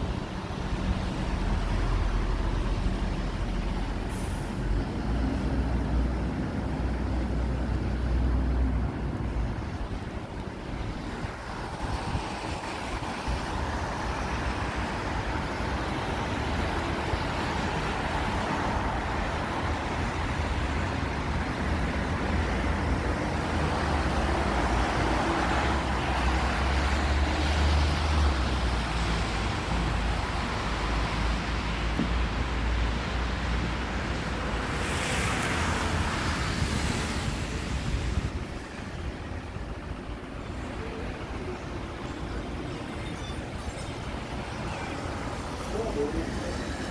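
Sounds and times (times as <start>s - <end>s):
traffic on wet street: 0.0s - 46.9s.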